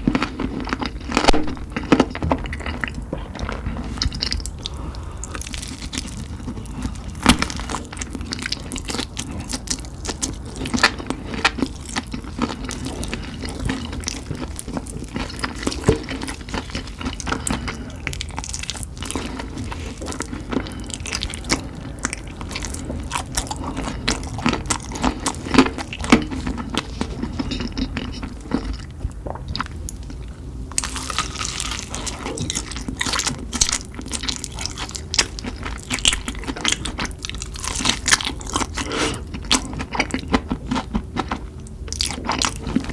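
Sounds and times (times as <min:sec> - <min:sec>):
person chewing and crunching: 0:00.0 - 0:42.9.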